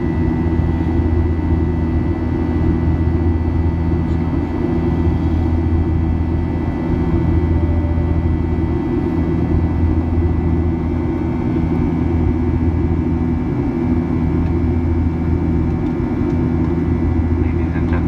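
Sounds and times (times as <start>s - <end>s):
jet engine drone: 0.0s - 18.0s.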